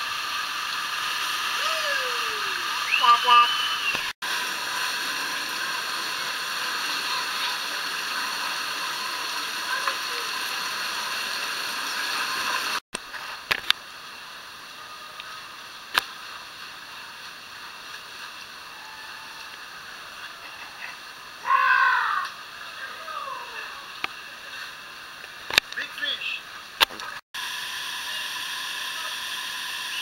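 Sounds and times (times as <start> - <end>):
quieter steady water noise: 0.0 - 30.0.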